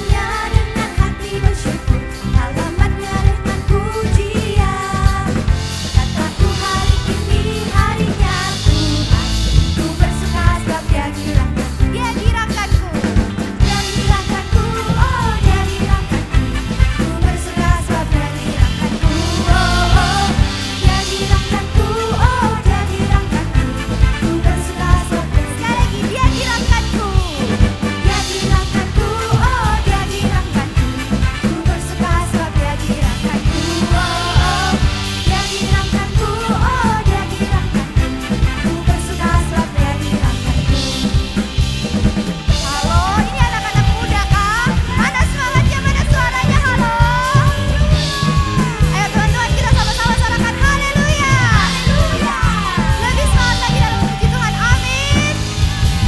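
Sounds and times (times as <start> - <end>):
people singing: 0.0 - 54.7
drum kit beat: 0.0 - 56.0
live worship band playing: 0.0 - 56.0.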